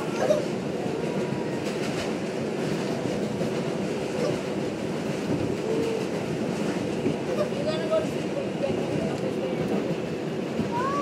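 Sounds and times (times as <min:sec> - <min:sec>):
subway car rumbling on rails: 0:00.0 - 0:11.0.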